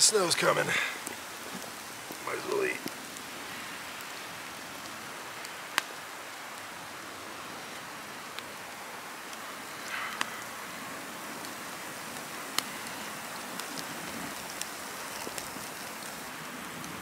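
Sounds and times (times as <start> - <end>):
campfire crackling and popping: 0.0 - 17.0
hiss of falling wet snow: 0.0 - 17.0.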